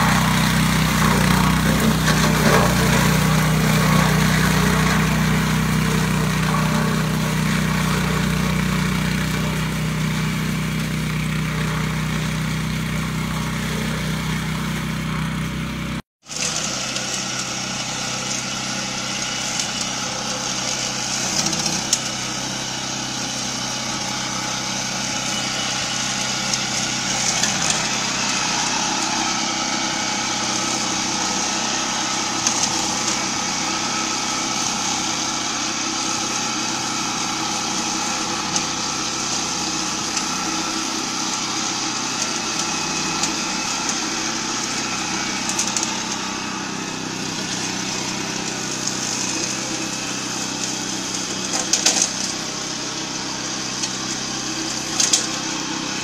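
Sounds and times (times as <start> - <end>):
mower petrol engine running: 0.0 - 56.0.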